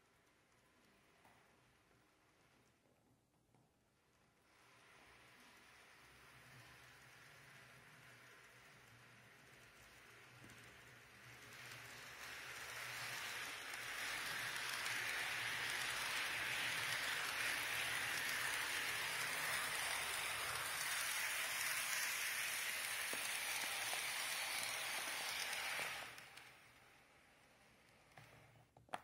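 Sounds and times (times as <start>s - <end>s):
model train whirring on rails: 4.2s - 28.7s.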